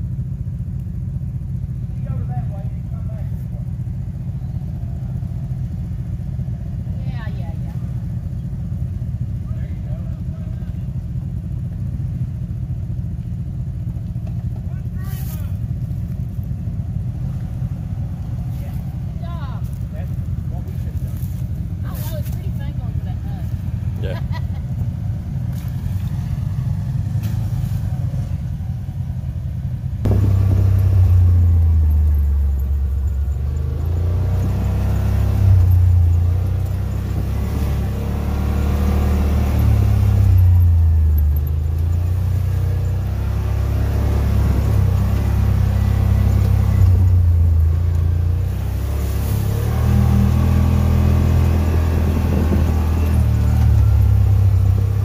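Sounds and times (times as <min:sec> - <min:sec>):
quieter engine nearby: 0:00.0 - 0:55.0
utility vehicle engine droning: 0:00.0 - 0:55.0.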